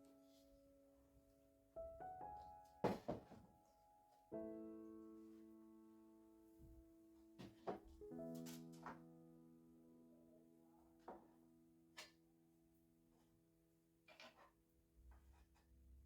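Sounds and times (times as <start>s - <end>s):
soft piano chords: 0.0s - 13.9s.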